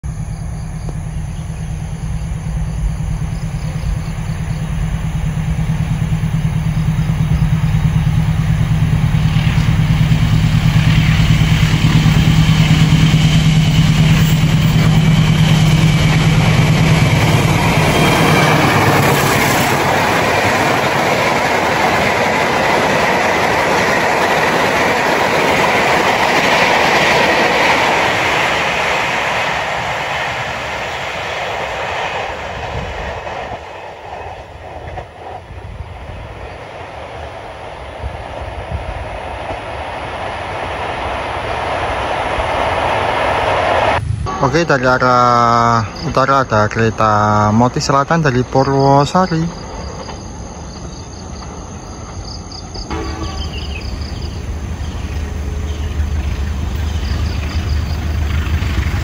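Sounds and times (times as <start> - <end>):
locomotive engine drone: 0.0 - 59.0
train wheels rumbling and clattering: 0.0 - 59.0.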